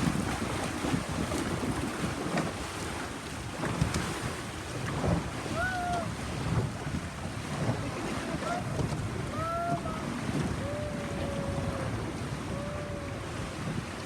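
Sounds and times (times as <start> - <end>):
water splashing around a boat: 0.0 - 14.0
wind buffeting microphone: 0.0 - 14.0.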